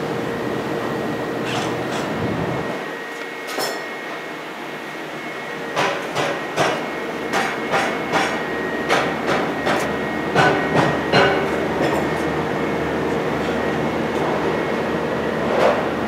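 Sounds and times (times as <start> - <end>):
background hum with high whine: 0.0 - 16.0.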